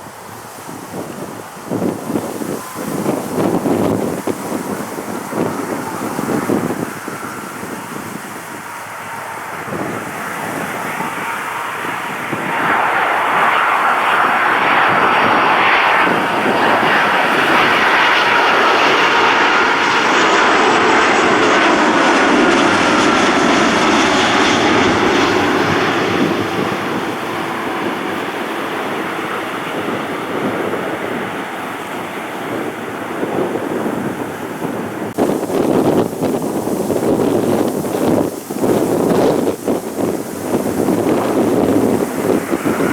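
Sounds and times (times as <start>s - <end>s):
jet engine whine: 0.0s - 42.9s
jet engines passing: 0.0s - 42.9s.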